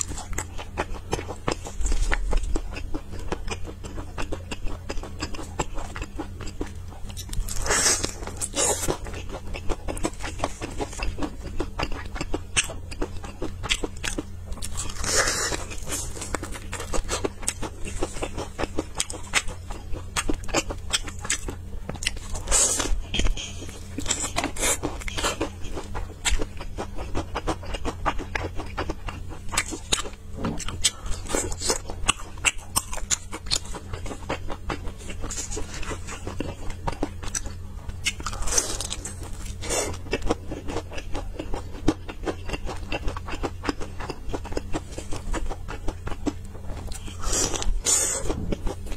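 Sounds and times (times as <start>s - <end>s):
crunching and chewing fried chicken: 0.0s - 48.9s.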